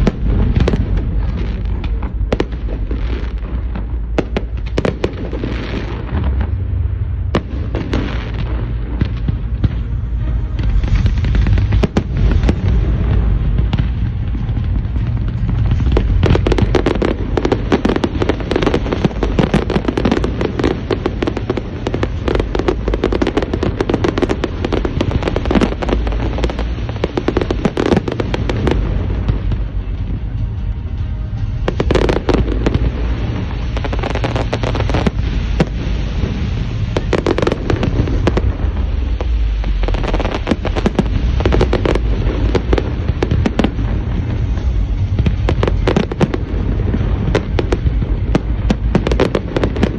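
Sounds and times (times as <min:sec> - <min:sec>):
crackling firework bursts: 0:00.0 - 0:49.9.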